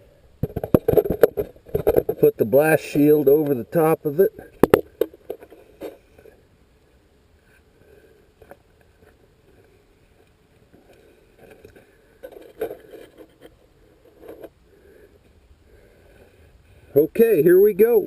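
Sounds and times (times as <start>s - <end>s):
faint scraping and knocking: 0.4s - 6.5s, 7.4s - 17.0s.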